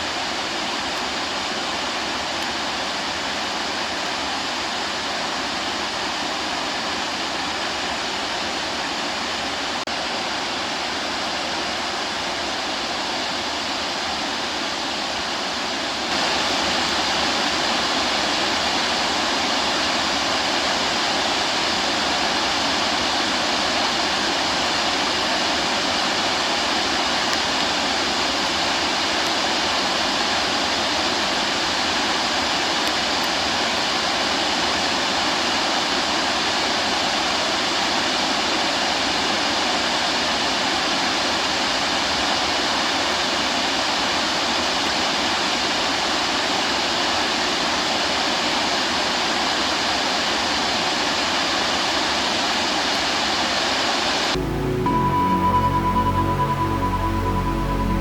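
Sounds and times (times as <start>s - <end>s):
waterfall rushing: 0.0s - 44.6s, 50.9s - 58.0s.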